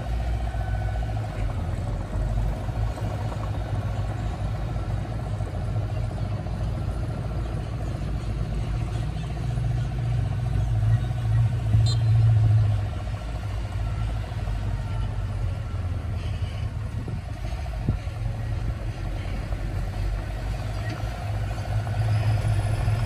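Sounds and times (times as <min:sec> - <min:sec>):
bulldozer diesel engine rumbling: 0:00.0 - 0:23.0.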